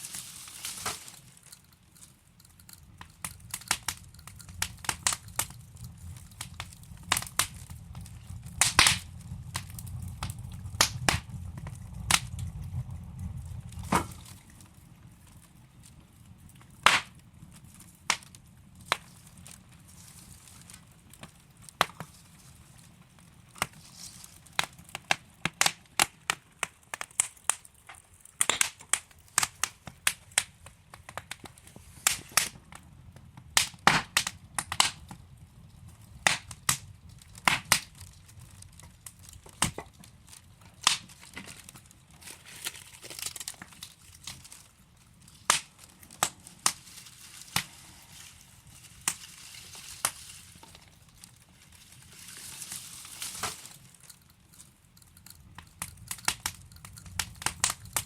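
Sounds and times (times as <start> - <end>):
logs crackling and popping in fireplace: 0.0 - 58.0
low rumble of flames: 0.0 - 58.0.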